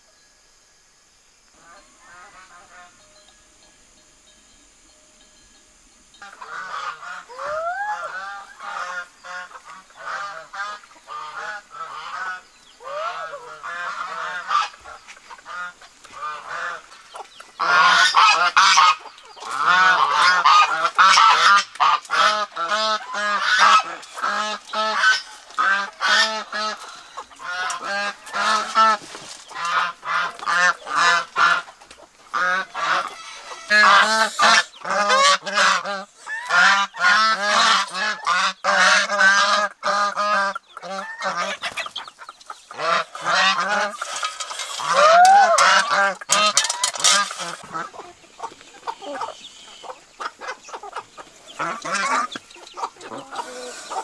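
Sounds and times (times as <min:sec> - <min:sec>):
geese honking: 0:01.6 - 0:03.2, 0:06.2 - 0:54.0.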